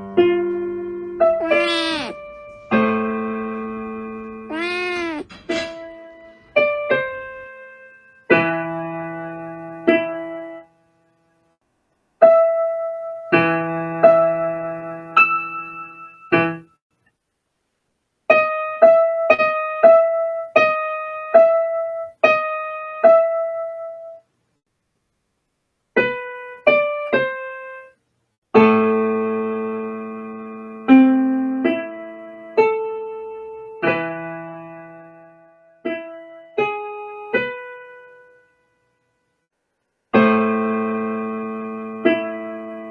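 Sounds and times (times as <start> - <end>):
solo piano music: 0.0 - 5.2, 5.8 - 11.1, 12.2 - 16.8, 18.3 - 24.3, 26.0 - 28.0, 28.6 - 38.8, 40.1 - 42.9.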